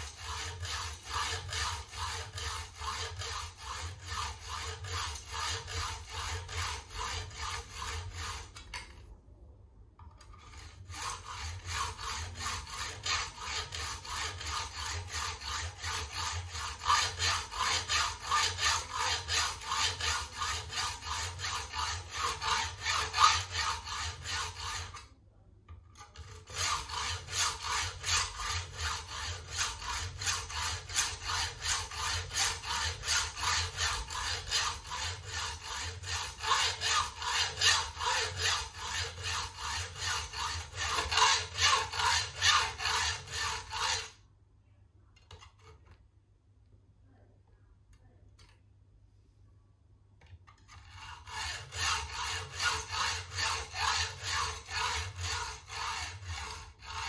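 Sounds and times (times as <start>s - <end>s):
hand hacksaw cutting: 0.0s - 8.8s, 10.3s - 25.0s, 26.0s - 44.2s, 50.6s - 57.0s.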